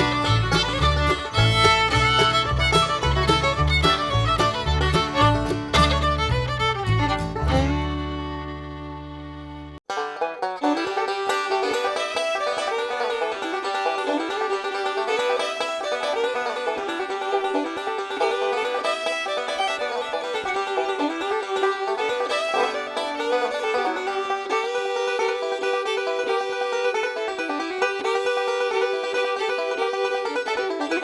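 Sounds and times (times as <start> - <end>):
bluegrass banjo music: 0.0 - 31.0.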